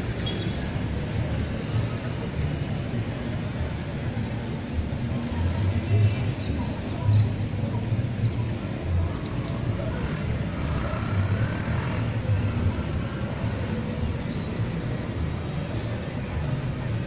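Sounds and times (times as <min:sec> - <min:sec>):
distant street traffic: 0:00.0 - 0:17.0.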